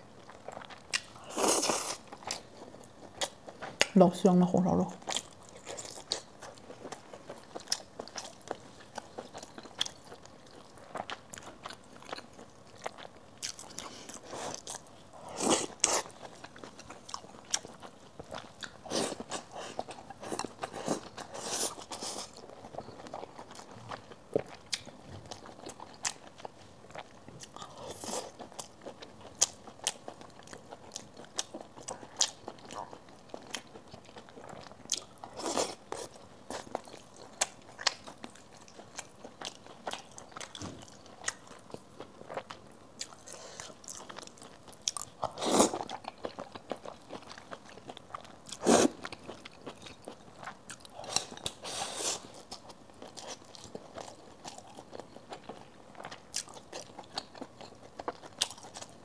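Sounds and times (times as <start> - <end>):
person chewing with wet smacks: 0.2 - 4.0, 5.0 - 59.0.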